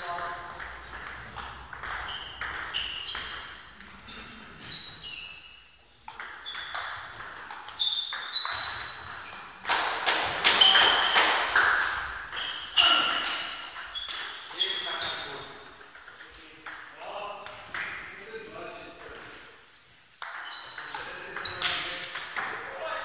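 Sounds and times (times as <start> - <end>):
table tennis ball pinging: 0.1 - 5.4, 6.0 - 18.0, 20.2 - 22.7.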